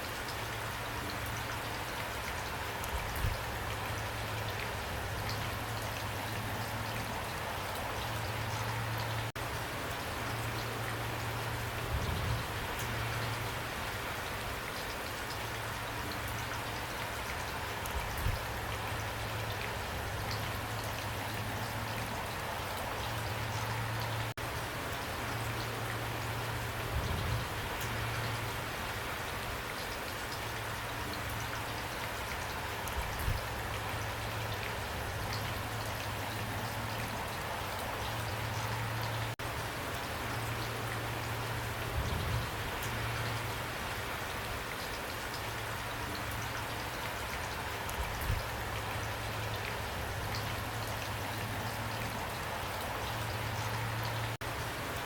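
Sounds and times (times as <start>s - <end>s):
heavy rain pouring: 0.0s - 55.0s
raindrops ticking on a surface: 0.0s - 55.0s.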